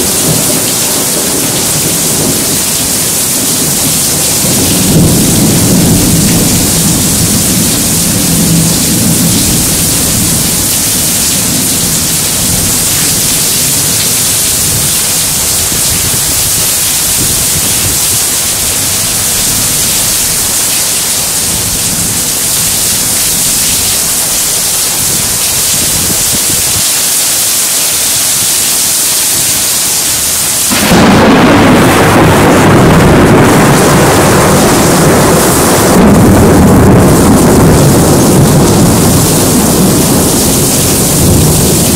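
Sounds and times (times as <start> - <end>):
low thunder rumble: 0.0 - 26.9, 30.6 - 41.9
heavy rain pouring: 0.0 - 41.9.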